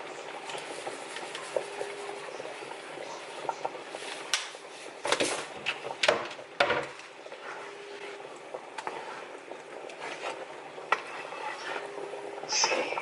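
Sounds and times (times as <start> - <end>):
pot bubbling: 0.0 - 13.0.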